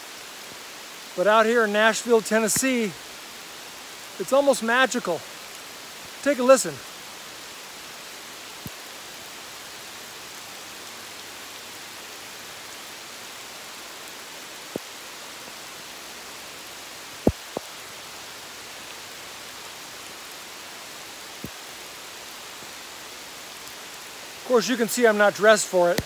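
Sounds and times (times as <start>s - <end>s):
rain on leaves: 0.0s - 26.0s.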